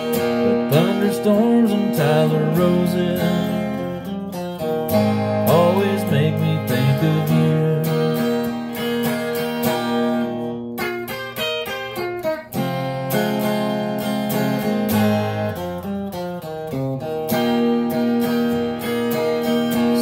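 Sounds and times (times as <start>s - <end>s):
acoustic guitar strummed chords: 0.0s - 20.0s
quick picked guitar notes: 0.0s - 20.0s.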